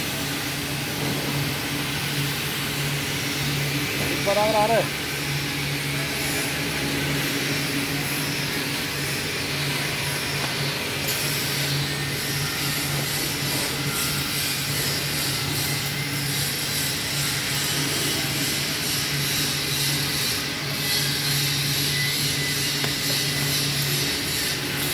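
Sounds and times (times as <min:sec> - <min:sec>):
welding arc hiss: 0:00.0 - 0:24.9.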